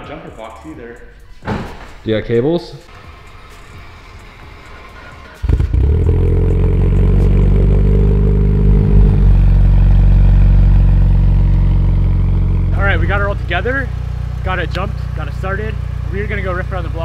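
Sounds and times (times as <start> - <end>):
car engine idling: 2.9 - 17.0.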